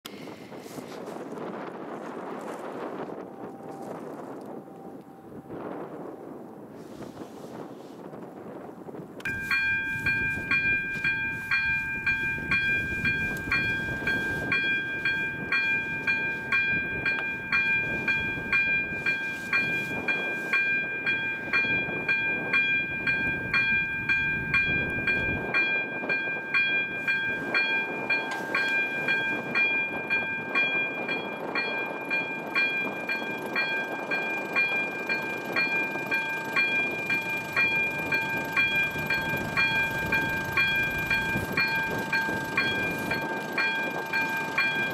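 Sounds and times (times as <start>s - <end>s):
level crossing warning bell: 2.8s - 6.6s, 9.2s - 44.9s.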